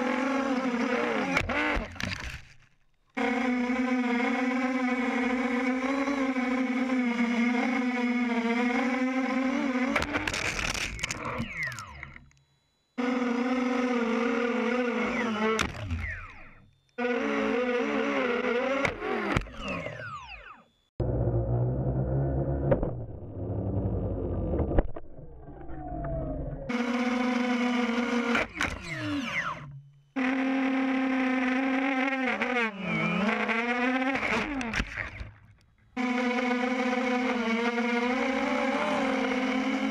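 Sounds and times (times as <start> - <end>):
motors winding down whine: 0.0 - 2.5, 3.1 - 39.9
drone motors buzzing: 0.0 - 39.9.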